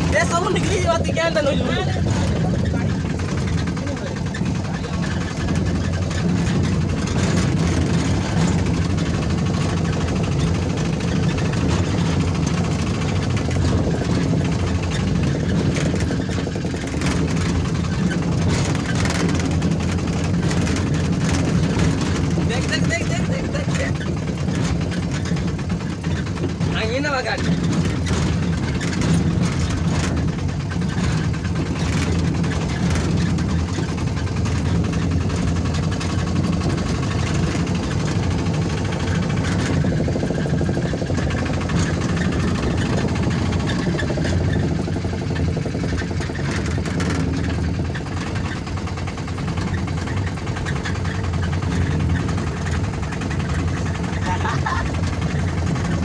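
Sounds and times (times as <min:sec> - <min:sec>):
car engine running: 0:00.0 - 0:56.0
road rumble: 0:00.0 - 0:56.0.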